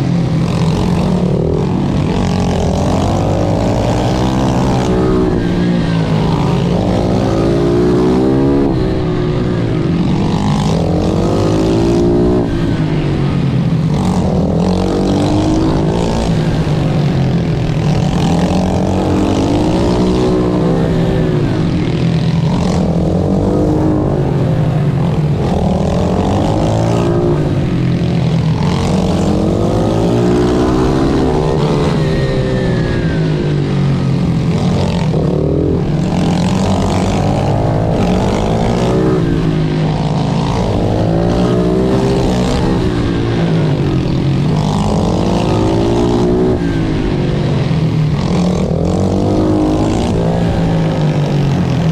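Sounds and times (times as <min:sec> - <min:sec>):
motorbike engine racing: 0:00.0 - 0:51.9.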